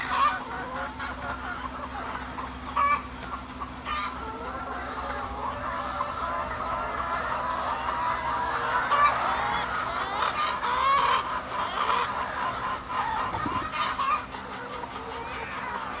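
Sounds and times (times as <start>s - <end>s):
hens clucking: 0.0s - 16.0s
steady low hum: 0.0s - 16.0s.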